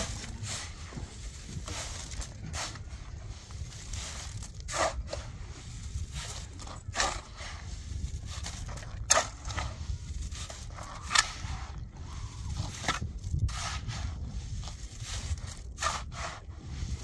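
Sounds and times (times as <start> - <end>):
shovel scraping concrete mix: 0.0 - 17.0
steady low rumble: 0.0 - 17.0.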